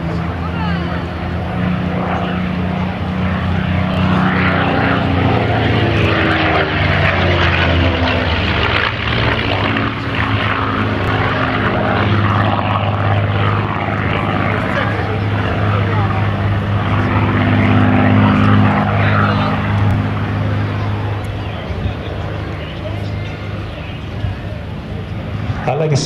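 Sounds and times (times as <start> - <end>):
propeller plane engine flypast: 0.0 - 26.0.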